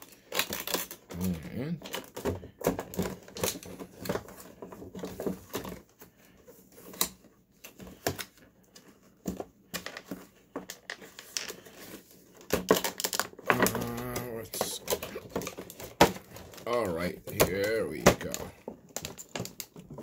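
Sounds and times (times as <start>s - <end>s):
plastic packaging clicking and crackling: 0.0s - 20.0s.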